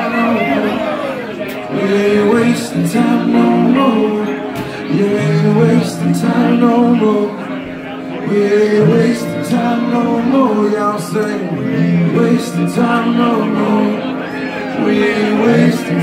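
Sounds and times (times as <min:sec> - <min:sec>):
electric guitar: 0:00.0 - 0:16.0
funk band playing: 0:00.0 - 0:16.0
man singing: 0:00.0 - 0:16.0.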